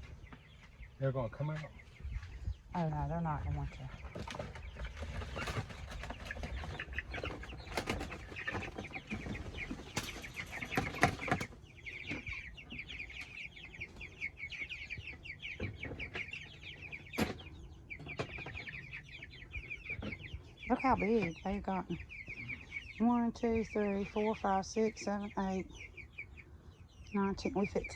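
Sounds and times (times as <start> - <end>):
chicks peeping: 0.0 - 27.9.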